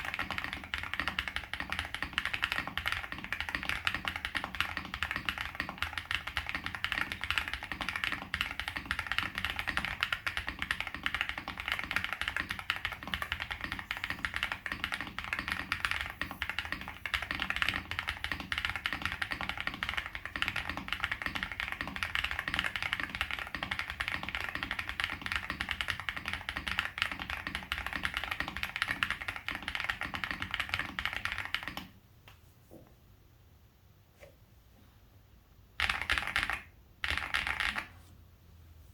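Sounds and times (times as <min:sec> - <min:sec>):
rapid mechanical keyboard typing: 0:00.0 - 0:31.9, 0:35.8 - 0:37.9.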